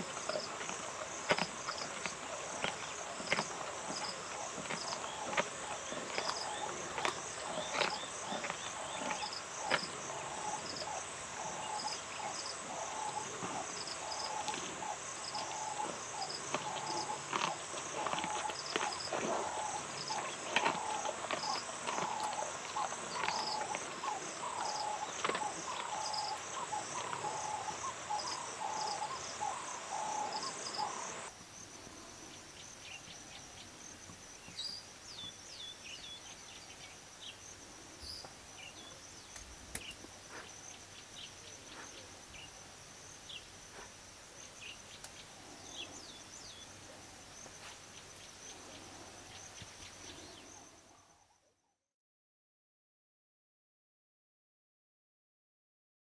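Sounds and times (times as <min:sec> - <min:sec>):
high insect trill: 0:00.0 - 0:51.4.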